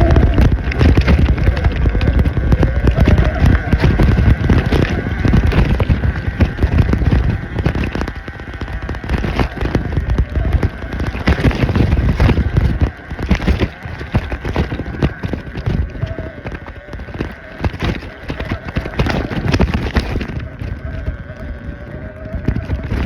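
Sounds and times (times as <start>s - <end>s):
clatter of knocks and rattles: 0.0s - 20.9s
dirt bike low rumble: 0.0s - 23.0s
electric motor whine: 0.0s - 23.0s.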